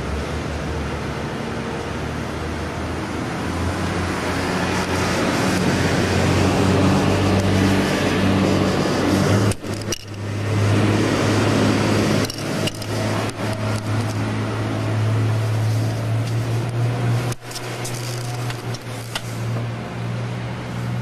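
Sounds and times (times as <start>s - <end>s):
low machine hum with rushing noise: 0.0s - 21.0s.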